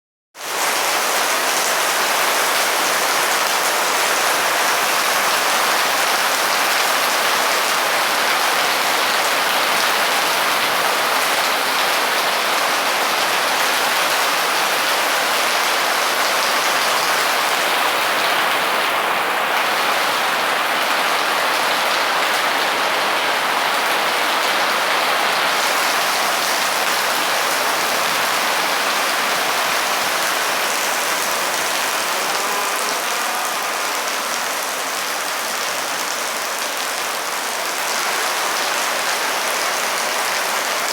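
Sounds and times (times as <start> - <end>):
heavy rain pouring: 0.4 - 40.9.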